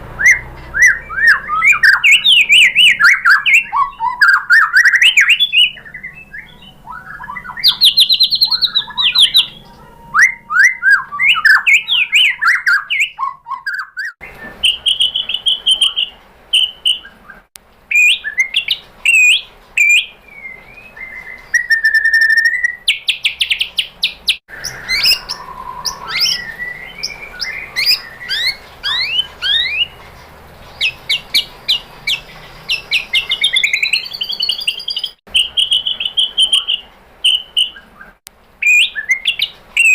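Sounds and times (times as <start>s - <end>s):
songbird singing whistles and trills: 0.1s - 39.9s.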